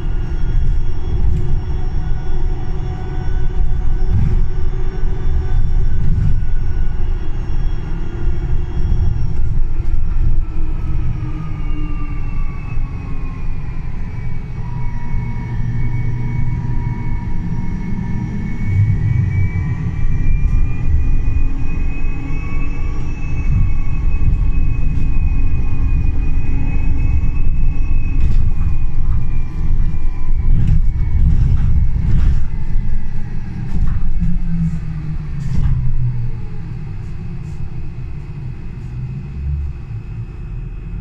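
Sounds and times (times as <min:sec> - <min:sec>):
bus motor whining tones: 0:00.0 - 0:41.0
electric bus low rumble: 0:00.0 - 0:41.0.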